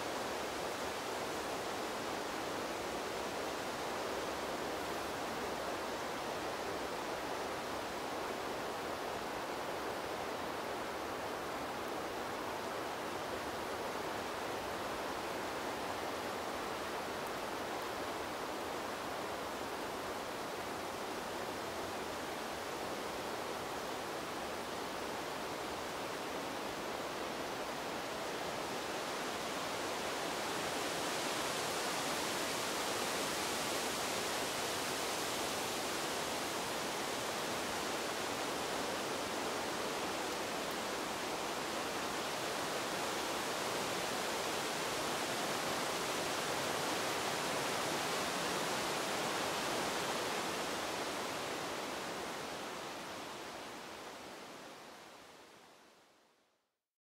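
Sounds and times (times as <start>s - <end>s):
wind rustling leaves: 0.0s - 56.5s.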